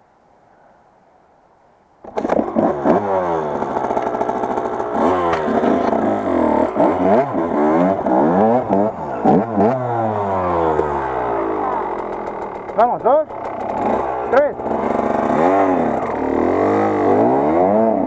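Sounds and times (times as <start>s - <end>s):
dirt bike engine revving: 2.0s - 18.0s.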